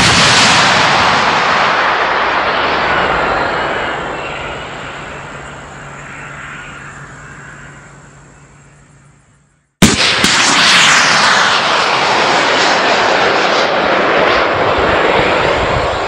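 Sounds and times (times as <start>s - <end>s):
rocket motor blast: 0.0s - 7.4s, 9.8s - 16.0s.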